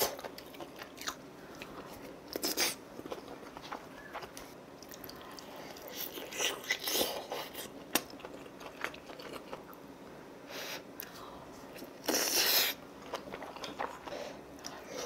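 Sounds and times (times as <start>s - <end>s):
person chewing food: 0.0s - 9.8s, 11.0s - 15.0s.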